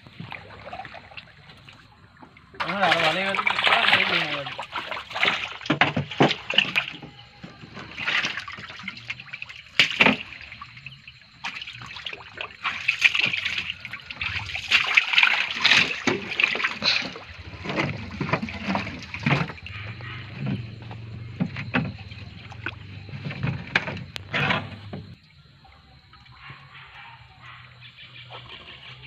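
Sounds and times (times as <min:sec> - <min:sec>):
water splashing from fish: 0:00.0 - 0:28.5.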